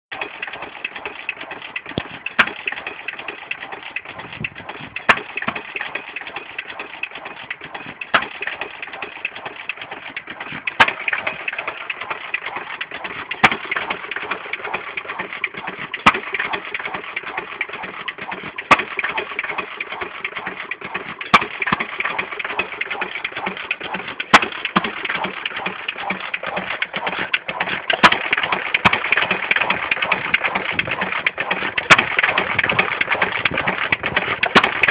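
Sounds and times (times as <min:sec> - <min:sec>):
engine mechanical clatter: 0:00.1 - 0:34.9.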